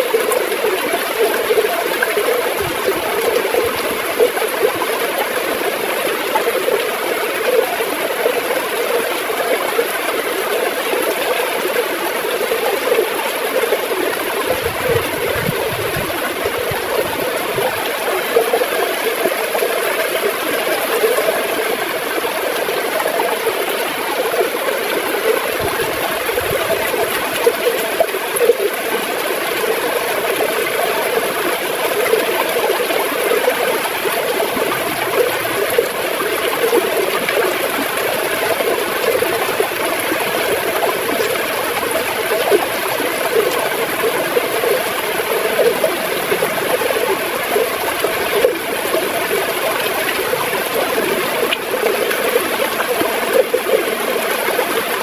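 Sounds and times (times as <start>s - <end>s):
river water gurgling: 0.0s - 55.0s.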